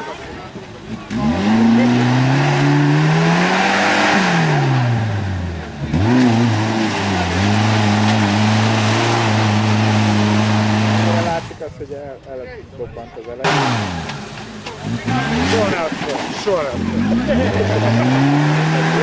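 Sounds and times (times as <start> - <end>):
engine revving hard: 0.8 - 11.6, 13.4 - 19.0.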